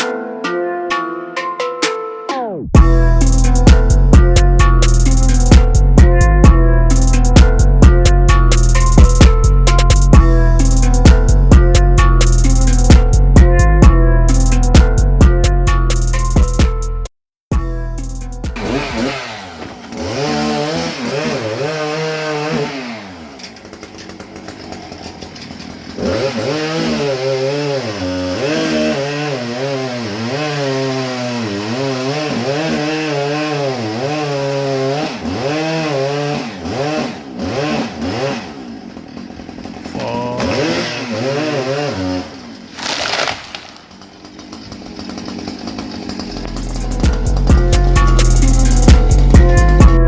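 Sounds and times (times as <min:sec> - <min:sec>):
chainsaw cutting wood: 0:02.8 - 0:13.8, 0:18.3 - 0:50.0.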